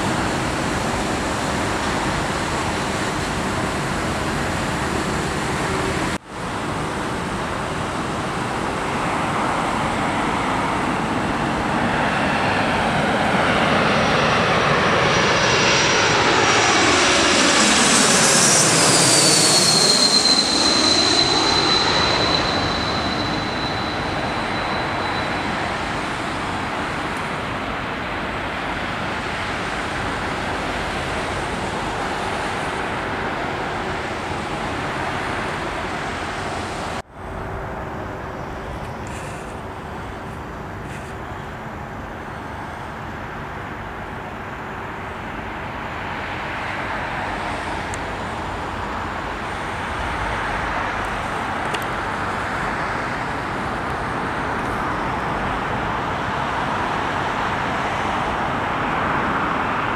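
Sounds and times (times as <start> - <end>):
jet engines roaring: 0.0 - 59.9
road traffic: 0.0 - 59.9.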